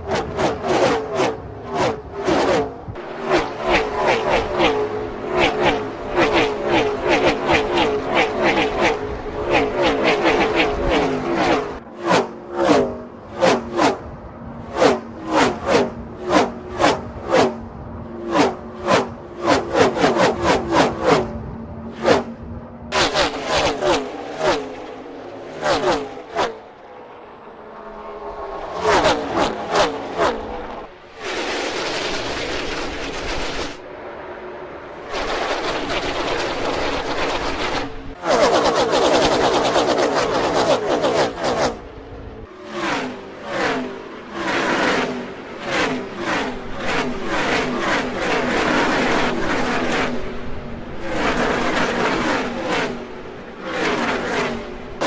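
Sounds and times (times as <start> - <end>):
race cars passing at speed: 0.0 - 55.0.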